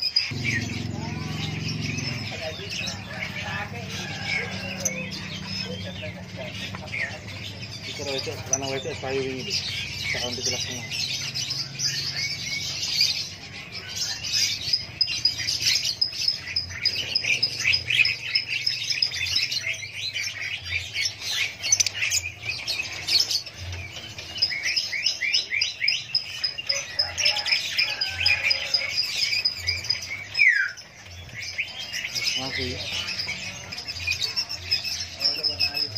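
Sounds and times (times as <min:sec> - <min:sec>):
lovebirds chirping and squawking: 0:00.0 - 0:35.9.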